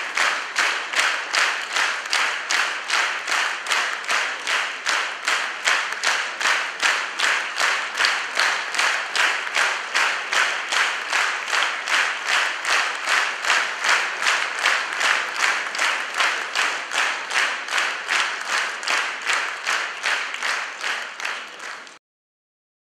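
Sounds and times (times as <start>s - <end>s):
audience clapping in unison: 0.0s - 22.0s.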